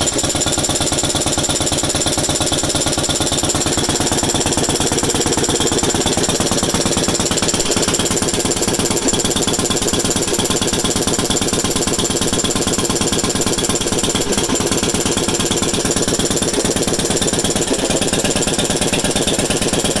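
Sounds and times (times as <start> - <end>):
stationary engine running: 0.0 - 20.0.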